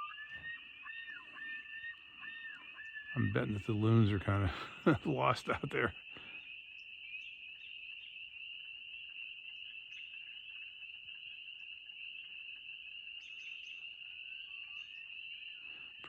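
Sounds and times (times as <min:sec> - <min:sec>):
distant frogs peeping: 0:00.0 - 0:16.0.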